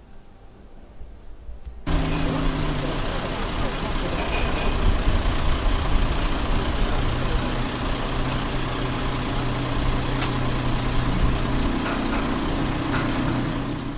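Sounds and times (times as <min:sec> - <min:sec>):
car engine droning at low revs: 0:01.8 - 0:13.9.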